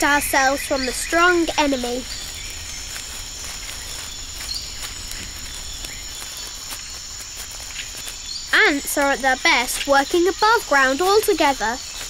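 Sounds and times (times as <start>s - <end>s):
faint ticks and chirps: 0.0s - 12.0s
high-pitched insect trill: 0.0s - 12.0s.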